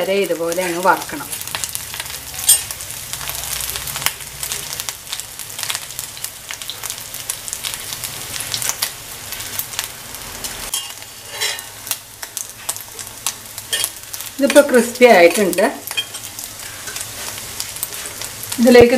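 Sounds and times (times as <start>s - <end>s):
shrimp sizzling in oil: 0.0s - 18.9s.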